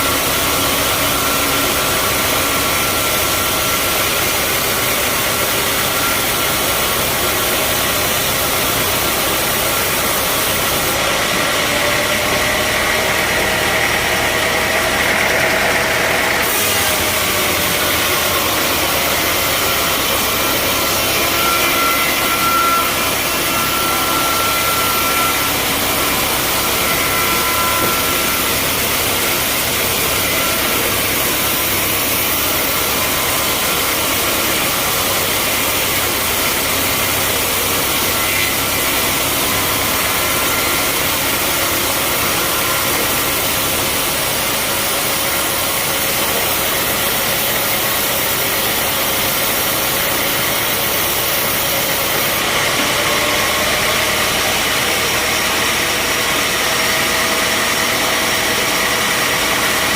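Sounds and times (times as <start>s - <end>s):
band sawmill running: 0.0s - 59.9s.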